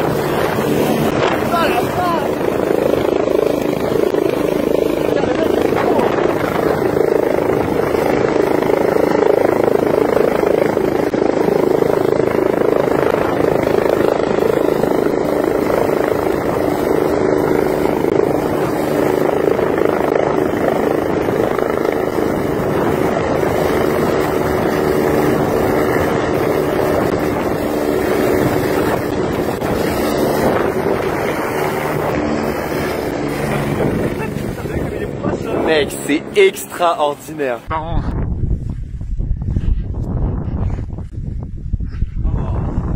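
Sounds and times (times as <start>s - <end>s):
helicopter rotor and turbines: 0.0s - 42.9s.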